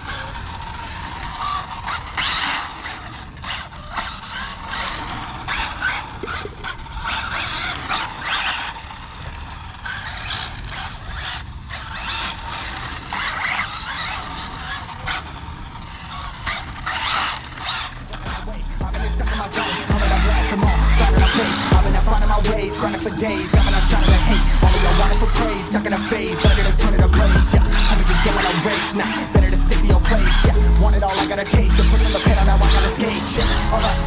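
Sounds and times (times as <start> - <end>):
toy car tyres squealing: 0.0 - 34.0.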